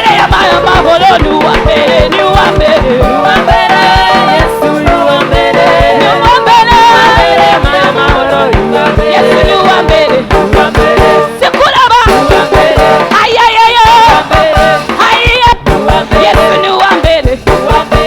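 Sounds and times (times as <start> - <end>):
keyboard: 0.0 - 18.0
steady drum beat: 0.0 - 18.0
voices singing: 0.0 - 18.0.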